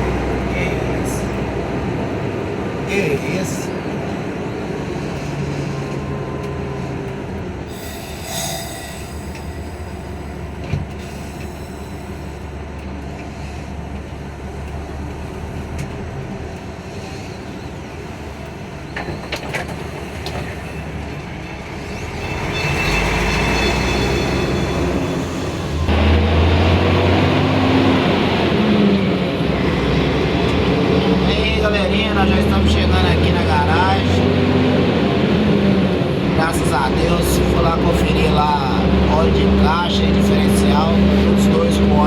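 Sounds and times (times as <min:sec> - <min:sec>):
bus engine rumble: 0:00.0 - 0:42.0
road noise: 0:00.0 - 0:42.0.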